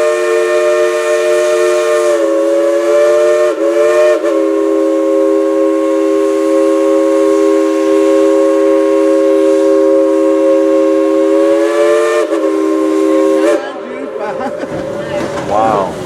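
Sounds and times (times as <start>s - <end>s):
steam whistle chord: 0.0s - 13.9s.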